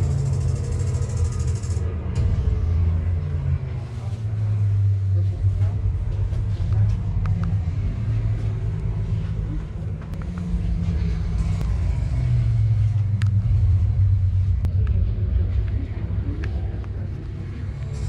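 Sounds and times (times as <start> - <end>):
low rumble with deep hum: 0.0 - 18.0.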